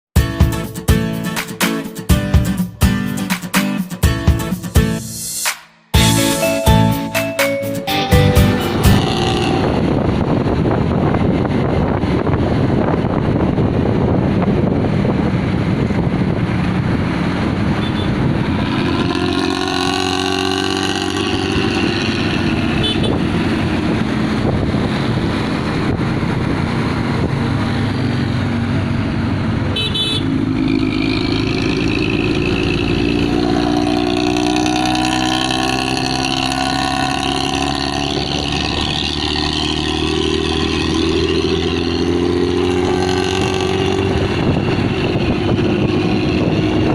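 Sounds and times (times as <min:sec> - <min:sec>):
bus diesel engine rumbling: 0:06.0 - 0:46.9.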